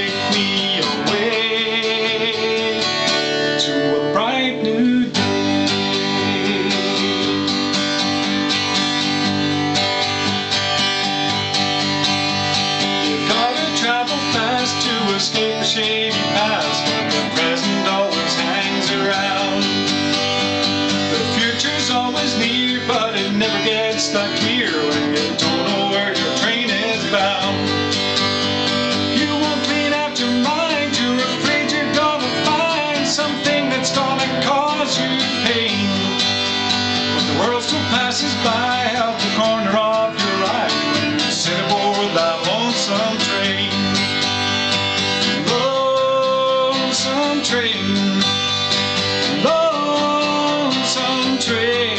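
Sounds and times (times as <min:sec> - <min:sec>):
acoustic guitar strumming: 0:00.0 - 0:51.9.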